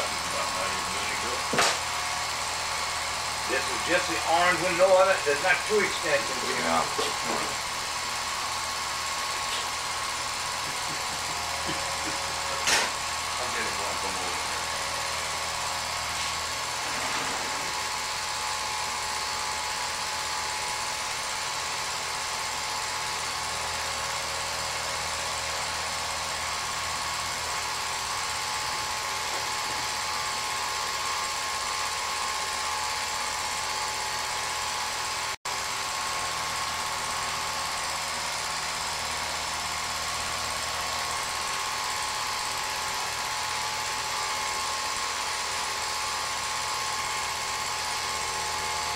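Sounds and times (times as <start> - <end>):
film projector running: 0.0 - 48.9.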